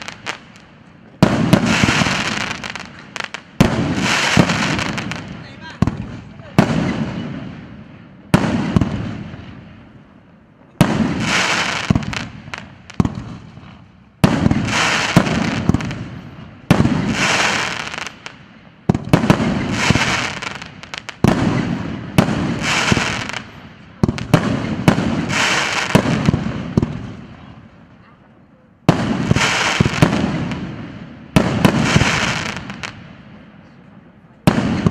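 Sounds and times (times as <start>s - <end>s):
firework bangs: 0.0s - 27.8s, 28.8s - 33.8s, 34.4s - 34.9s
firework crackling: 0.0s - 28.0s, 28.8s - 33.8s, 34.4s - 34.9s.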